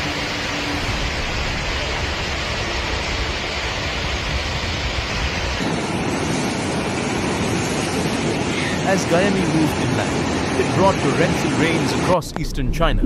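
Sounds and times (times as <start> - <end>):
floodwater rushing: 0.0 - 13.0
heavy rain: 0.0 - 13.0.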